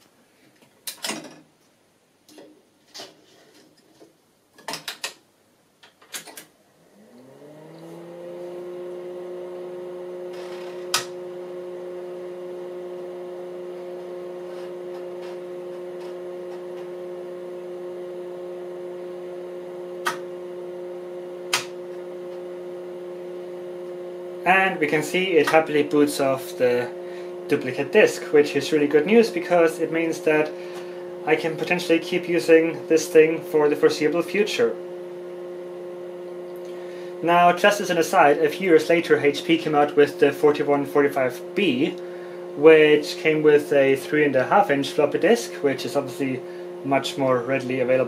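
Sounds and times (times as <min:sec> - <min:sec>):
whirring hum rising in pitch: 0:06.8 - 0:48.0.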